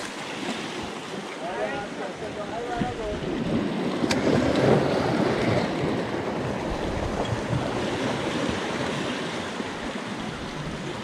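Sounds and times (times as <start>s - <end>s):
surf washing against rocks: 0.0s - 11.0s.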